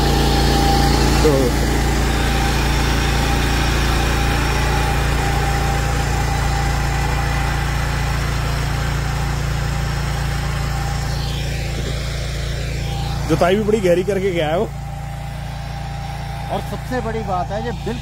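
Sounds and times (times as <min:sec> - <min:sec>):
power weeder engine running: 0:00.0 - 0:18.0.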